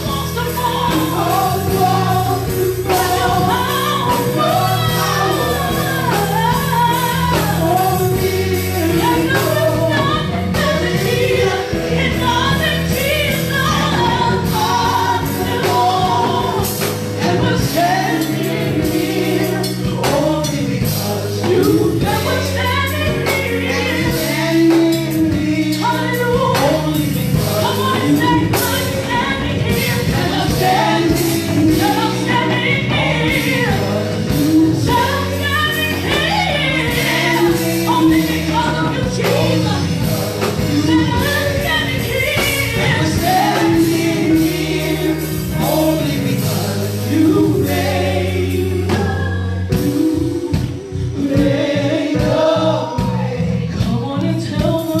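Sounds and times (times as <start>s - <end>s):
choir and congregation singing: 0.0s - 55.0s
instrumental accompaniment: 0.0s - 55.0s.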